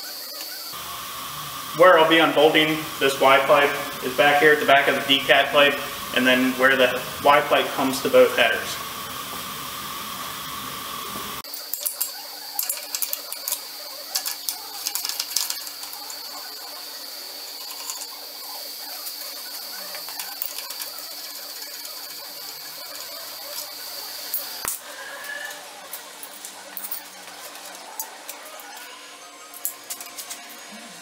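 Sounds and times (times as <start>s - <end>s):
faint steady high whine: 0.0s - 31.0s.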